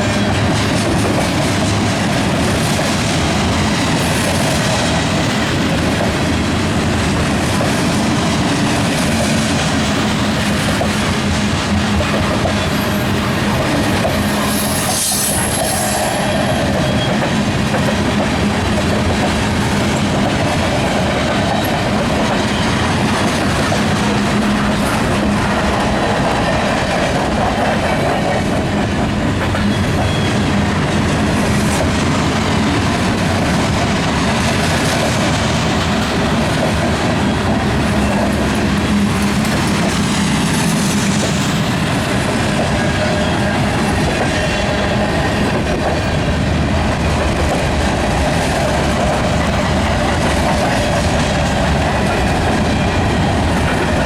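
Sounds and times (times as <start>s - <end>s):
clickety-clack of wheels: 0.0s - 54.0s
train wheels rumbling on rails: 0.0s - 54.0s.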